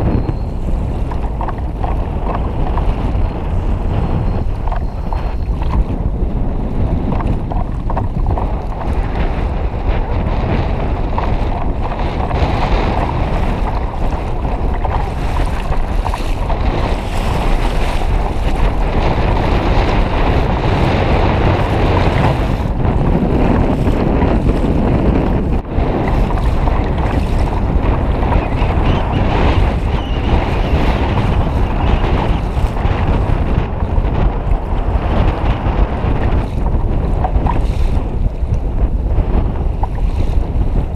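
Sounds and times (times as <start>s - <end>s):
choppy sea waves: 0.0s - 40.9s
wind buffeting microphone: 0.0s - 40.9s.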